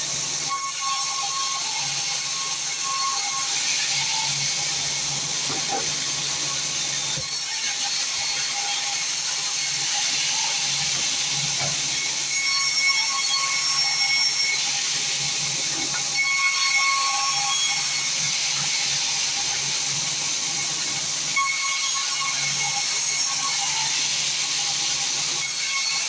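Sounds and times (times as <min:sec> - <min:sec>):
saw cutting through timber: 0:00.0 - 0:26.0.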